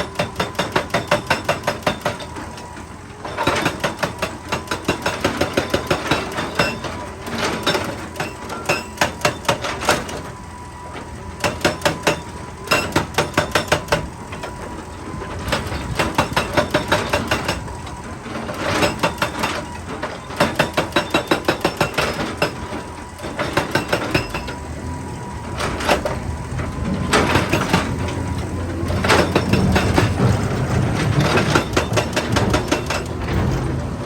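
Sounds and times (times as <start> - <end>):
hydraulic breaker hammering rock: 0.0 - 10.4, 11.3 - 34.0
machine engine hum: 0.0 - 34.0.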